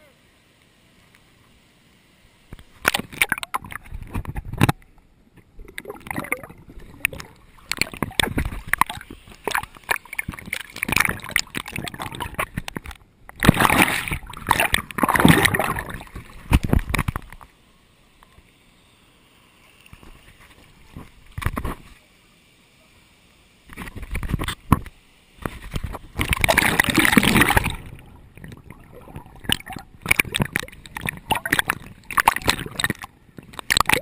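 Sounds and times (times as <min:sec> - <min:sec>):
water splashing and sloshing: 0:02.5 - 0:17.6, 0:19.6 - 0:22.0, 0:23.6 - 0:34.0.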